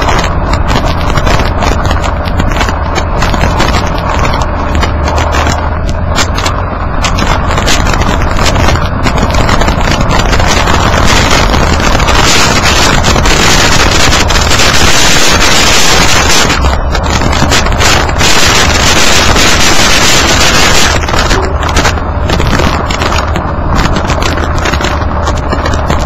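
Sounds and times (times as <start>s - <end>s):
small rapid ticks and knocks: 0.0s - 26.0s
tyre and road noise: 0.0s - 26.0s
wind buffeting: 0.0s - 26.0s.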